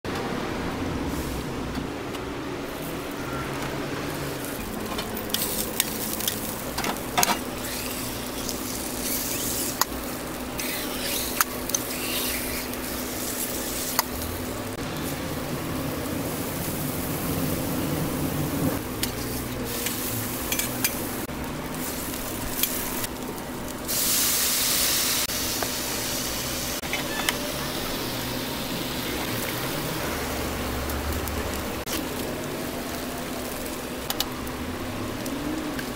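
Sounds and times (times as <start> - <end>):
food sizzling on a griddle: 4.0 - 35.9.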